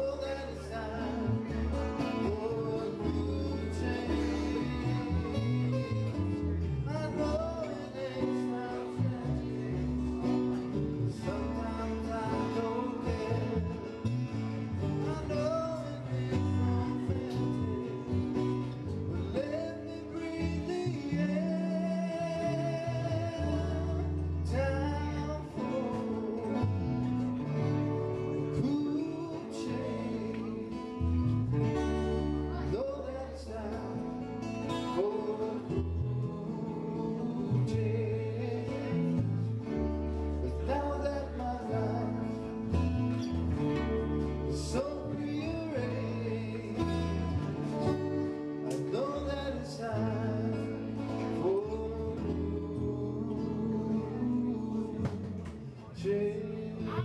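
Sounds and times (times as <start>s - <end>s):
person singing: 0.0s - 27.3s, 28.1s - 31.2s, 31.8s - 57.0s
guitar and bass: 0.0s - 57.0s.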